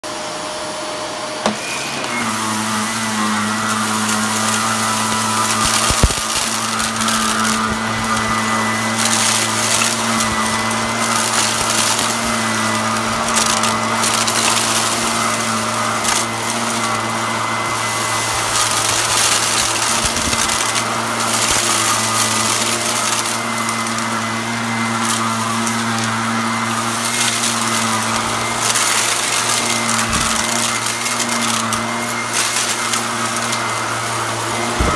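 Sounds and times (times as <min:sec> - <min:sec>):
vacuum cleaner motor hum: 0:00.0 - 0:34.9
grains rattling through vacuum: 0:01.5 - 0:34.9.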